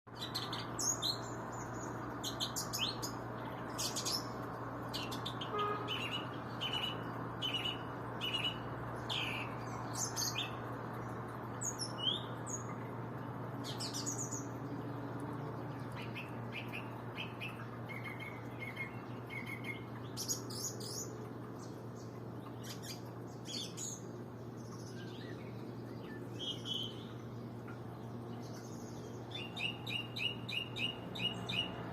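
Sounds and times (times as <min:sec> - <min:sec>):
small bird singing: 0:00.1 - 0:12.9, 0:13.5 - 0:31.9.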